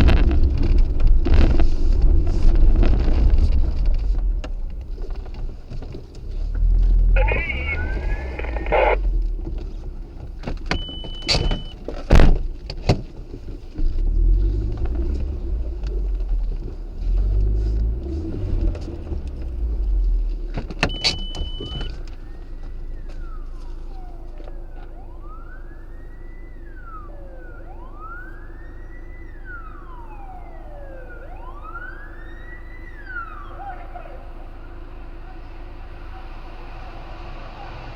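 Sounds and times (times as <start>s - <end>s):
vehicle engine and road rumble: 0.0s - 37.9s
police siren wailing: 2.6s - 11.8s, 14.0s - 37.9s.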